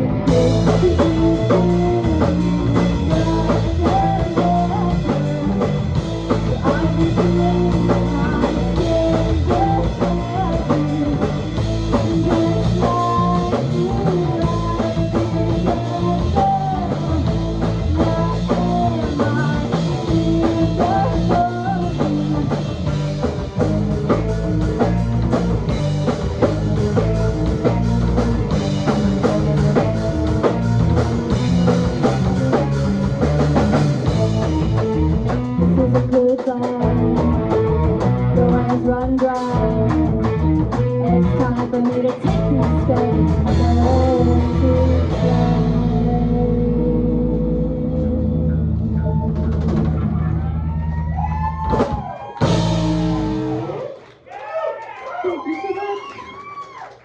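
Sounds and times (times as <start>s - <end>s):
electric guitar melody: 0.0s - 50.7s, 52.4s - 53.9s
drum kit: 0.0s - 54.0s
bass guitar: 0.0s - 54.1s.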